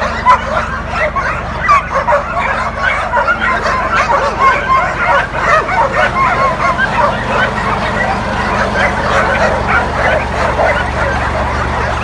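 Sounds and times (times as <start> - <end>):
many dogs barking and yelping: 0.0 - 12.0.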